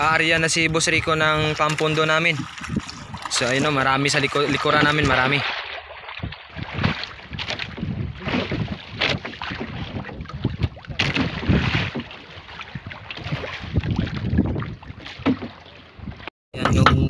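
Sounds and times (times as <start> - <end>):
wind buffeting microphone: 0.0 - 5.4, 6.0 - 17.0
sea water splashing around boat: 0.0 - 16.3.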